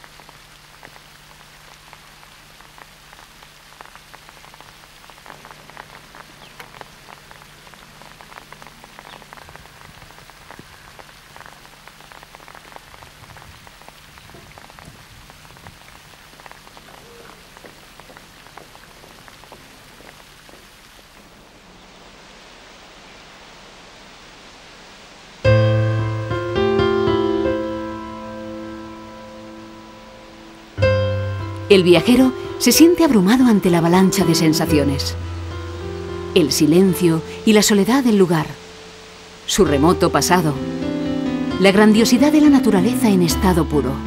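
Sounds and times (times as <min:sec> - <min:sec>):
rain drops on hard surfaces: 0:00.0 - 0:44.0
rain hiss: 0:00.0 - 0:44.0.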